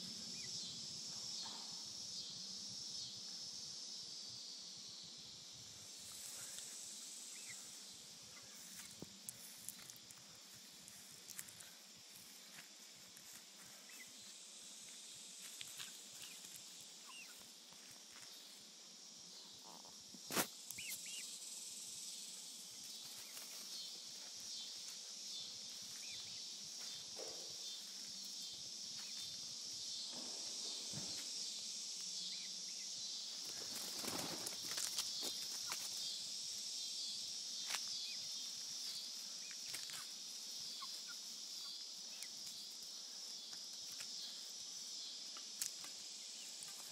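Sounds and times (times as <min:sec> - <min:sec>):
insects buzzing: 0:00.0 - 0:46.9.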